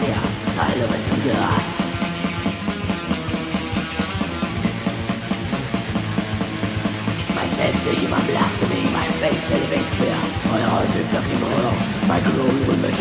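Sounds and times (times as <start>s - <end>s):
distorted instruments: 0.0s - 13.0s
fast even drumming: 0.0s - 13.0s.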